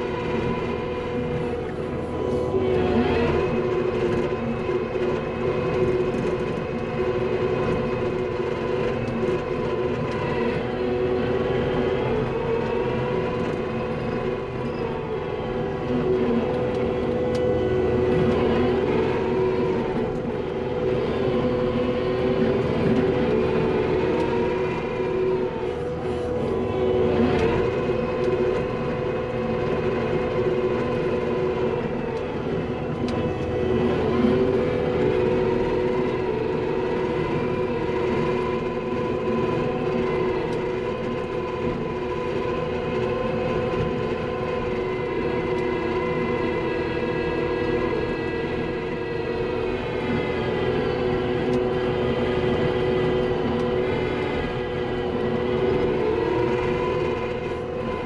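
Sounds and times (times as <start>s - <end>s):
engine hum with whine: 0.0s - 58.0s.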